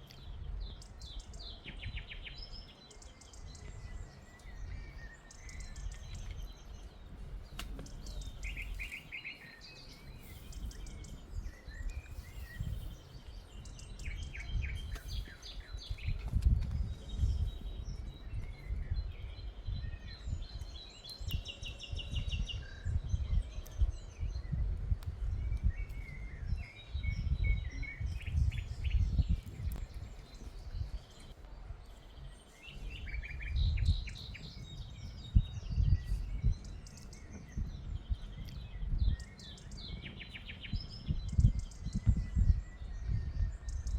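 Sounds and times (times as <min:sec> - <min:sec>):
birds chirping and trilling: 0:00.0 - 0:43.9.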